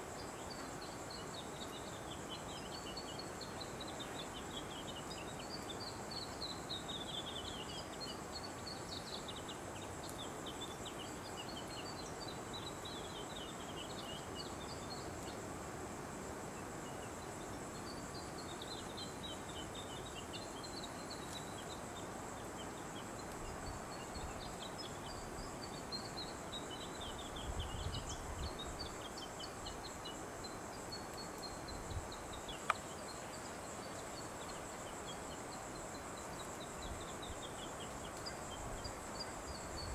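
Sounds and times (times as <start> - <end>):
bird chirping song: 0.0 - 15.4, 16.6 - 39.9
background hiss: 0.0 - 39.9
high insect drone: 0.0 - 39.9.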